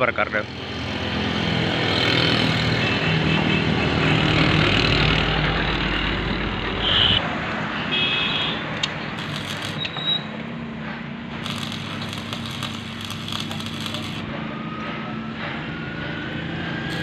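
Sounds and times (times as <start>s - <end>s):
vehicle engine rumbling: 0.3s - 7.4s, 8.7s - 17.0s.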